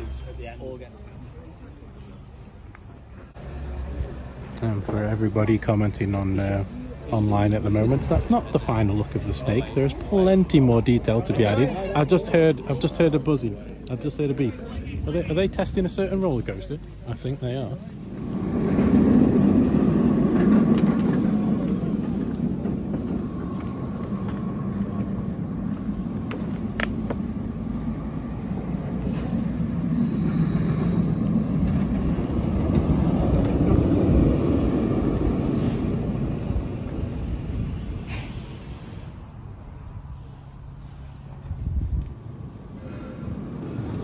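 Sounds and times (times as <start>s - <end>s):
roller coaster rumbling on track: 0.0s - 44.0s.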